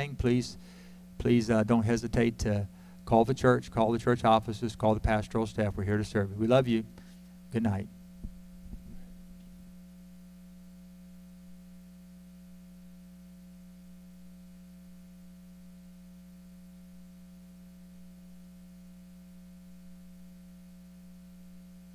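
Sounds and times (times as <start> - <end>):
low electrical hum: 0.0 - 21.9.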